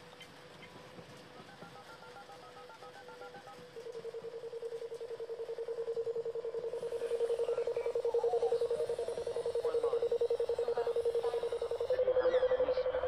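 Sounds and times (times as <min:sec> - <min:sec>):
rapid pulsing electronic tone: 0:01.2 - 0:13.0.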